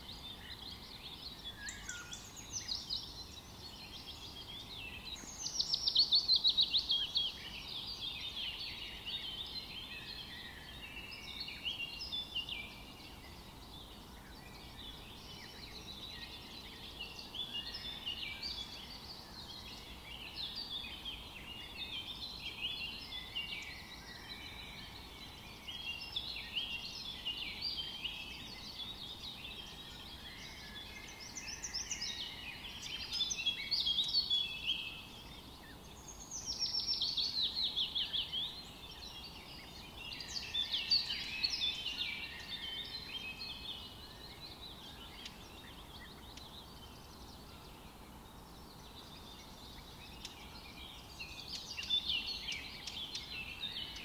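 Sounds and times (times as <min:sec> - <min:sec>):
faint background hiss: 0:00.0 - 0:54.0
small birds chirping: 0:00.0 - 0:54.0.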